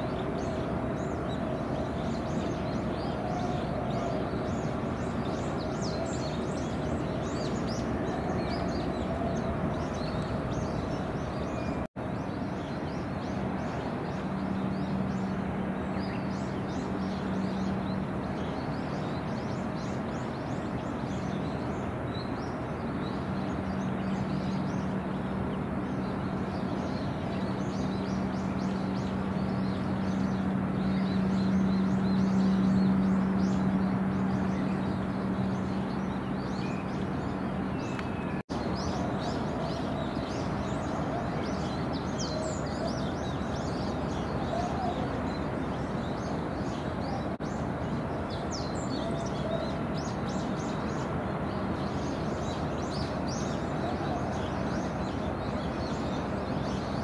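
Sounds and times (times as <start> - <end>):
small birds chirping: 0.0 - 57.0
steady low hum: 0.0 - 57.0
steady rush of background noise: 0.0 - 57.0.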